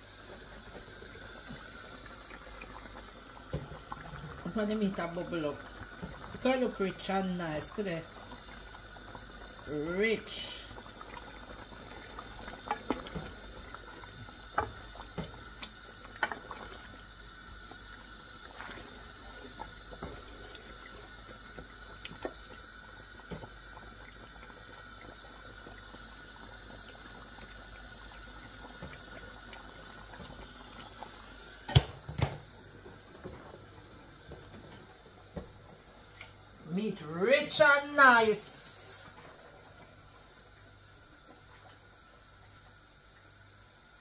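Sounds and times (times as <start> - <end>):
curry simmering and bubbling: 0.0 - 44.0.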